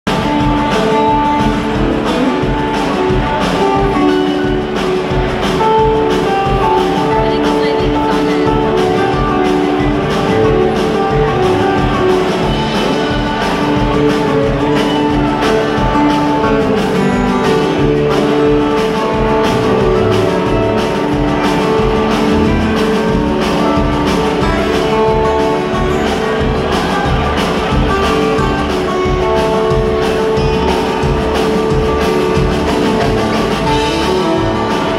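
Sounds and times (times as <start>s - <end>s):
distant live string band: 0.1s - 34.9s.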